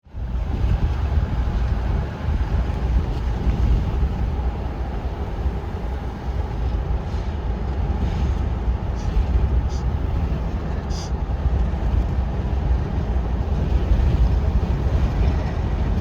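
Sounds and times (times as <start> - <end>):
car road and engine rumble: 0.0 - 16.0
wind: 0.0 - 16.0.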